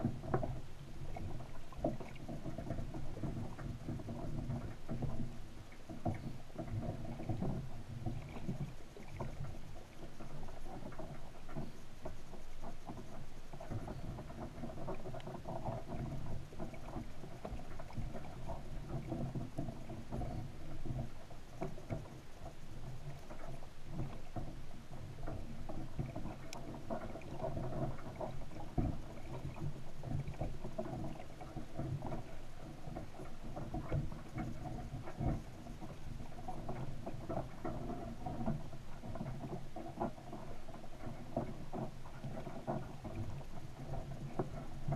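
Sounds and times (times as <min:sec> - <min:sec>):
faint underwater clicks: 0:00.0 - 0:44.9
underwater rumble of moving water: 0:00.0 - 0:44.9.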